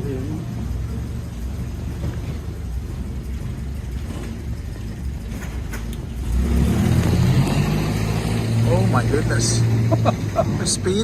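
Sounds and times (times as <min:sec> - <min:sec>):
car engine driving along: 0:00.0 - 0:11.0.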